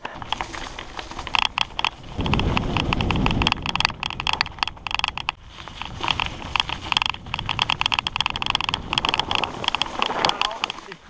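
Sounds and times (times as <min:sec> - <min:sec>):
wind on microphone: 0:00.0 - 0:10.9
mountain bike rattling over dirt: 0:00.0 - 0:11.0.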